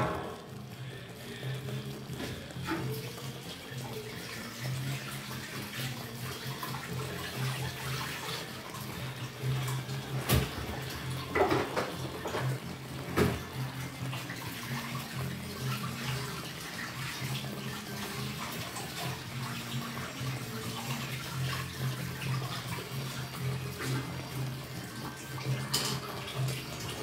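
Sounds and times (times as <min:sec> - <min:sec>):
sauce bubbling in a frying pan: 0:00.0 - 0:27.0.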